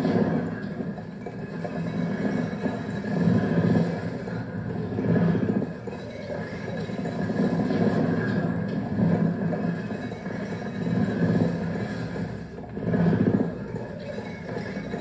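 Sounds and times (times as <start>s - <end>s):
faint steady tones: 0.0s - 15.0s
low murky tape drone: 0.0s - 15.0s.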